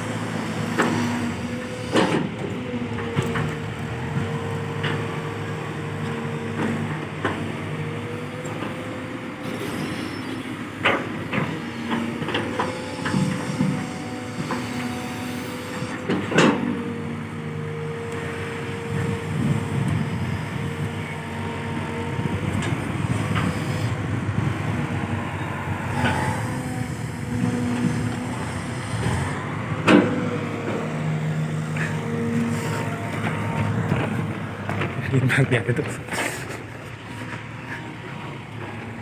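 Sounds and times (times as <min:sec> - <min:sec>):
excavator diesel engine under load: 0:00.0 - 0:39.0.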